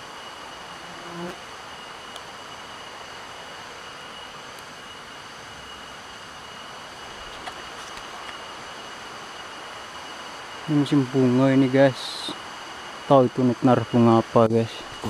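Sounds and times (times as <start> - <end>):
even hiss: 0.0 - 15.0
high-pitched insect drone: 0.0 - 15.0.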